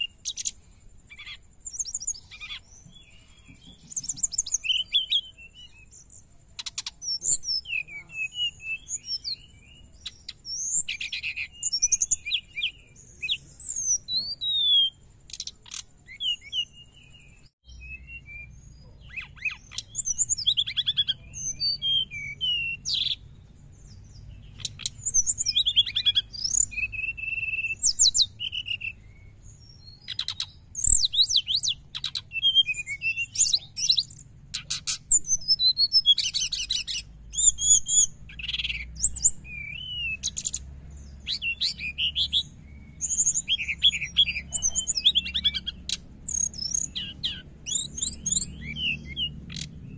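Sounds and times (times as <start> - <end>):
flycatcher singing chattering song: 0.0 - 49.9.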